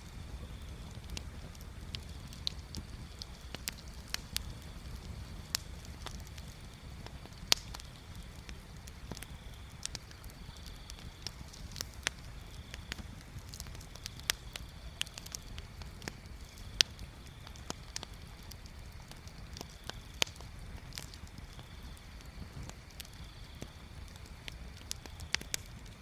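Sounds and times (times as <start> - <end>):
low steady rumble: 0.0 - 26.0
wood bonfire crackling: 0.0 - 26.0.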